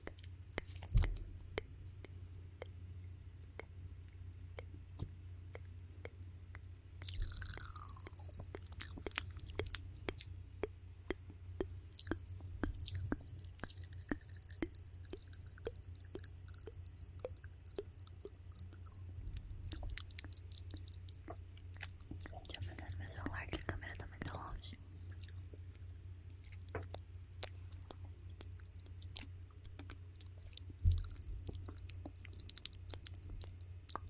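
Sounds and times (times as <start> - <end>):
steady low hum: 0.0 - 34.0
wet mouth clicks and lip smacks: 6.5 - 34.0.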